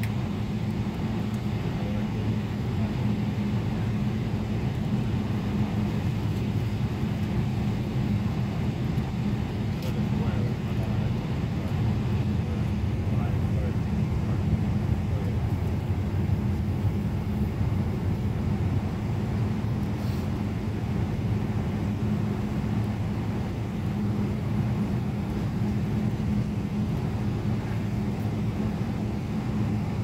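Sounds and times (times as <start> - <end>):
jet engines low hum in cabin: 0.0 - 30.0.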